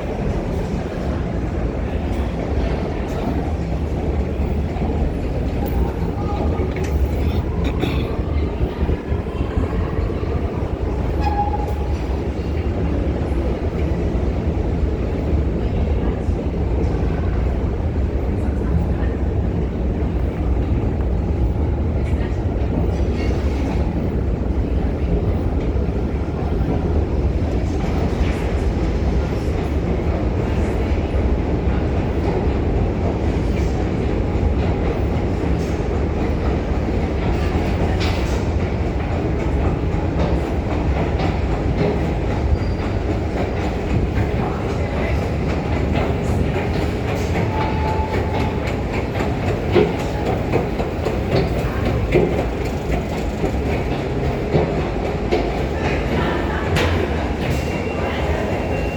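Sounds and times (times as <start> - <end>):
subway train rumbling on rails: 0.0 - 58.9.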